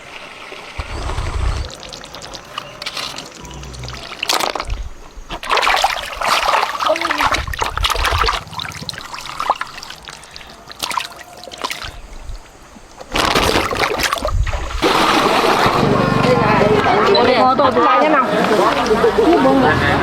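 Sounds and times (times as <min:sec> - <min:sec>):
water splashing and trickling: 0:00.0 - 0:16.4, 0:17.0 - 0:19.9.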